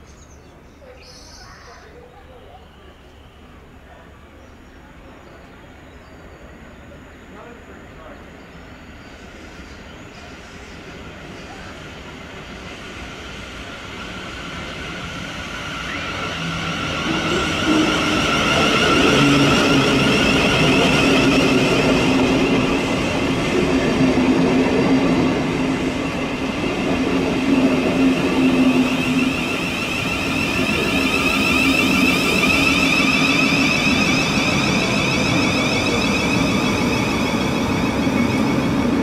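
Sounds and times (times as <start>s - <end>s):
electric train rushing: 5.7s - 39.0s.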